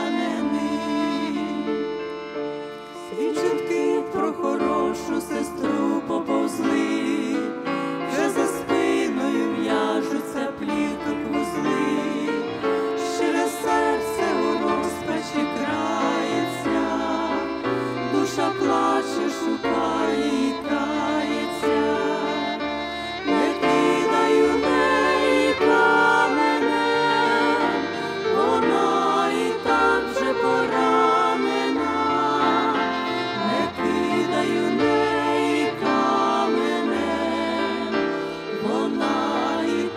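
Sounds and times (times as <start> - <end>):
women singing in harmony: 0.0 - 39.9.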